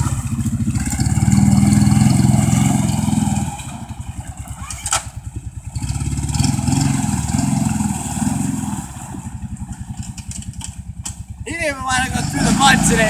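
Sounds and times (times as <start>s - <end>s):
quad engine revving: 0.0s - 13.0s.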